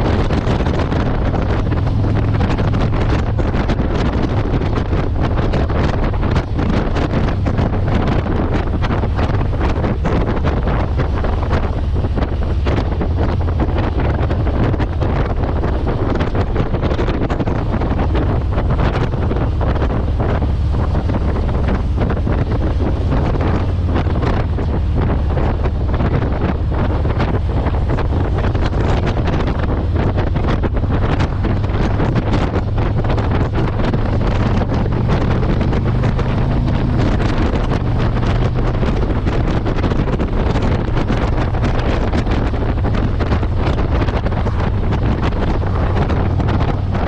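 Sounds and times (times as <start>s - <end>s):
motorcycle engine: 0.0s - 47.0s
road noise: 0.0s - 47.0s
wind buffeting microphone: 0.0s - 47.0s.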